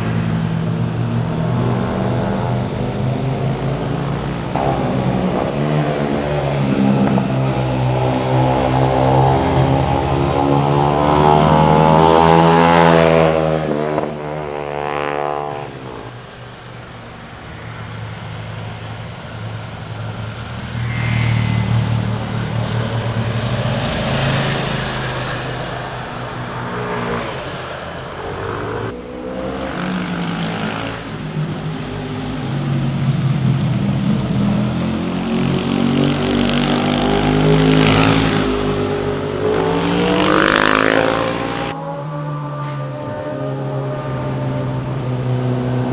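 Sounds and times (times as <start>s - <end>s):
motorcycles passing and revving: 0.0s - 45.9s.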